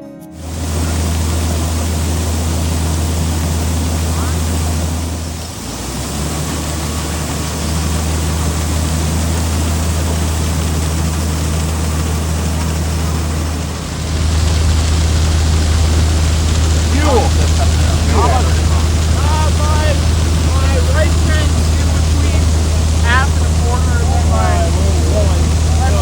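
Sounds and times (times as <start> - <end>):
heavy engine droning: 0.3 - 26.0.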